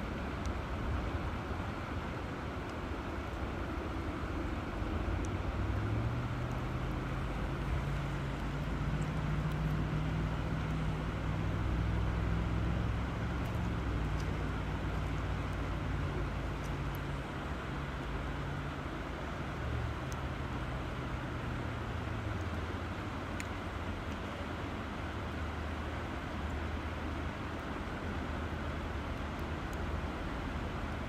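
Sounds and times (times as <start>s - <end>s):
low engine hum: 0.0s - 31.0s
river water rushing: 0.0s - 31.0s.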